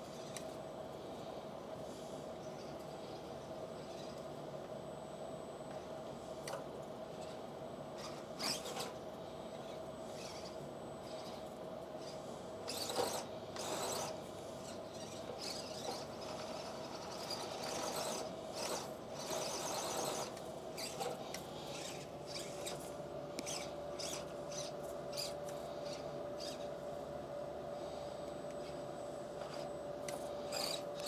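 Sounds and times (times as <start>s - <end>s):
rc car motor and gears whining: 0.0s - 5.8s, 6.4s - 27.4s, 28.0s - 31.0s.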